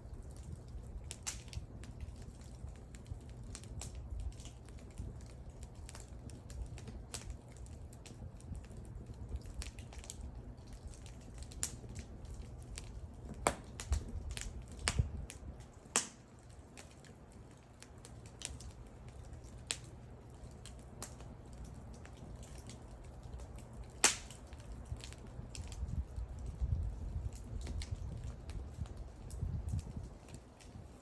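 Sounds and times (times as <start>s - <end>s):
low rumble of fire: 0.0s - 31.0s
wood fire crackling and popping: 0.0s - 31.0s.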